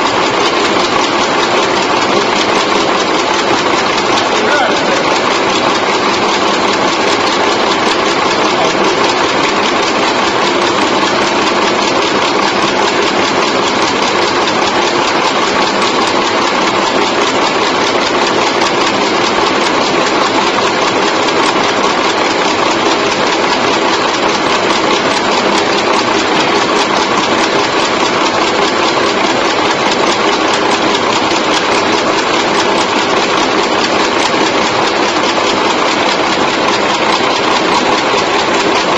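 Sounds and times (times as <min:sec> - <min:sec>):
fast mechanical clatter: 0:00.0 - 0:38.9.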